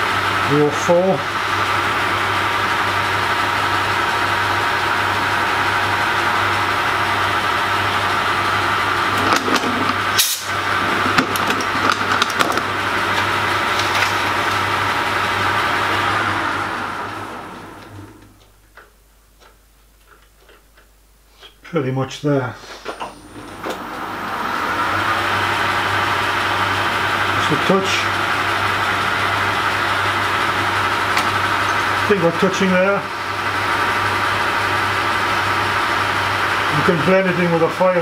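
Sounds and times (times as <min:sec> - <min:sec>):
metal lathe running: 0:00.0 - 0:18.2, 0:23.1 - 0:38.0
lathe running down: 0:00.0 - 0:18.4, 0:23.0 - 0:38.0.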